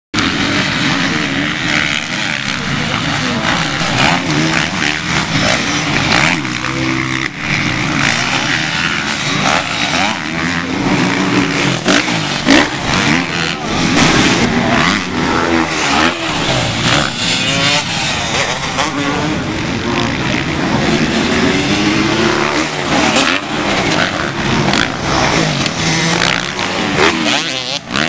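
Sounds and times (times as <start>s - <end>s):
motocross bike engines revving: 0.2s - 28.0s.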